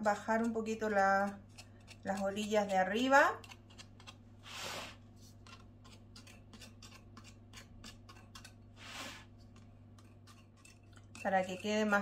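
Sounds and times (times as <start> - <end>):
metal spatula scraping pastry dough: 0.3 - 12.0.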